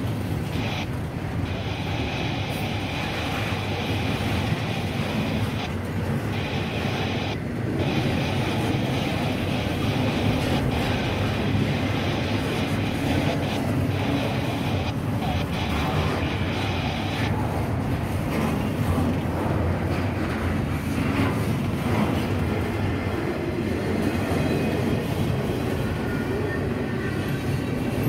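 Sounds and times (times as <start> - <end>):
train wheels running on rails: 0.0 - 28.0.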